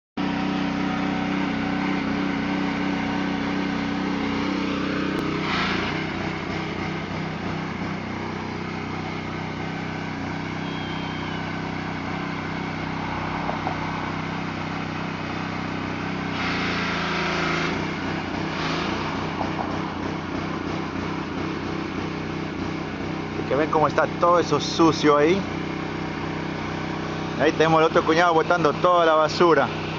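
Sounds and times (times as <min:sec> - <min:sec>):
small engine running: 0:00.2 - 0:29.9.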